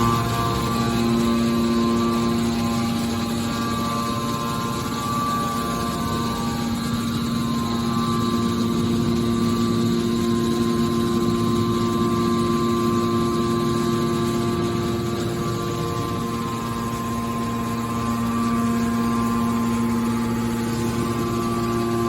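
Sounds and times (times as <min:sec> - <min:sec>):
hydraulic pump and motor humming: 0:00.0 - 0:22.0.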